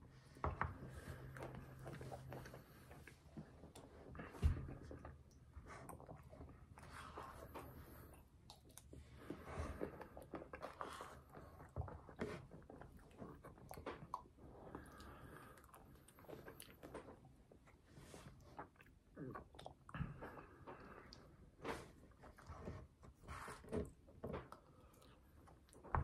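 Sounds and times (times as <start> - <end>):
close-up chewing: 0.3 - 26.0.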